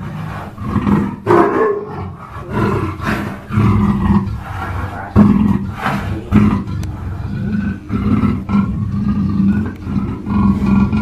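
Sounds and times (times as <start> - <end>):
big cat roaring: 0.0 - 11.0.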